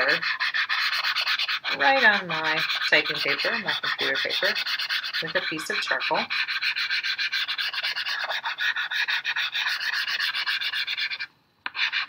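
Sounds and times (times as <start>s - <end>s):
charcoal scrubbing on paper: 0.0s - 12.0s.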